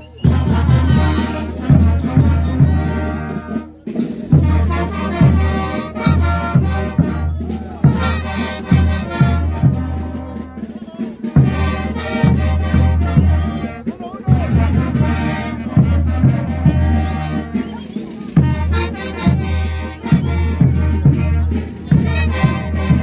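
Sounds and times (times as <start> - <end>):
bass drum beat: 0.0 - 3.5, 4.2 - 23.0
brass band playing dance music: 0.0 - 23.0.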